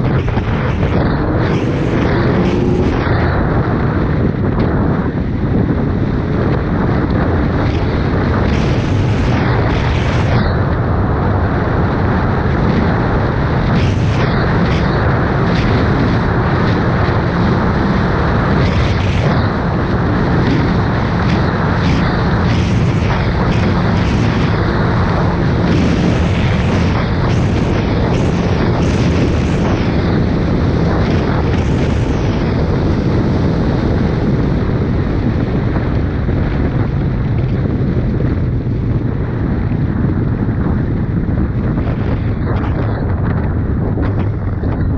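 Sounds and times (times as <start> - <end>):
motorcycle engine drone: 0.0 - 44.9
wind buffeting microphone: 0.0 - 44.9.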